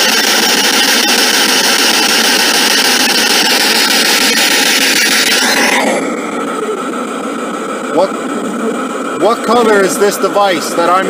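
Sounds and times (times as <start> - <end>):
radio static through speaker: 0.0 - 11.0.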